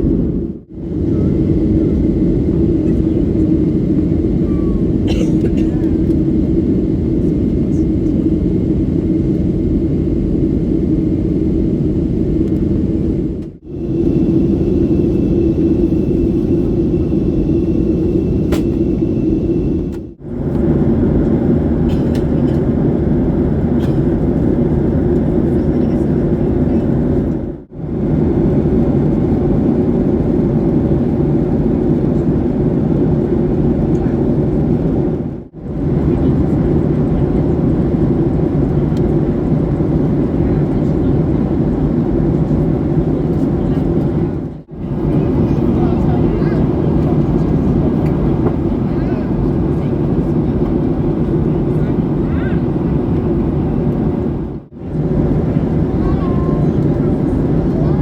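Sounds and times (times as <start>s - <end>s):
jet airliner cabin roar: 0.0s - 58.0s.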